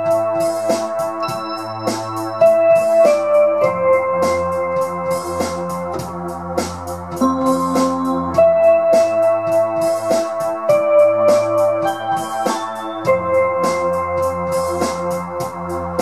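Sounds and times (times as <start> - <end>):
looped drum beat: 0.0 - 16.0
synthesizer chords and bass line: 0.0 - 16.0.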